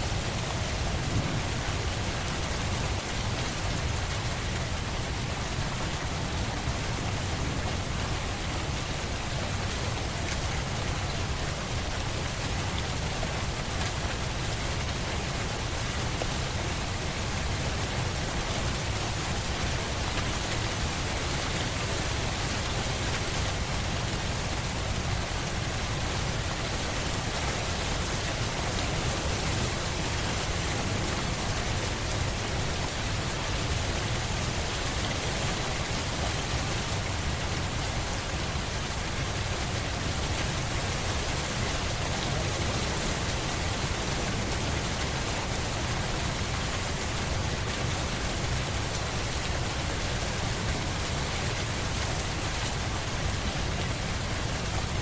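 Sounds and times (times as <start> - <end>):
steady rainfall patter: 0.0 - 55.0.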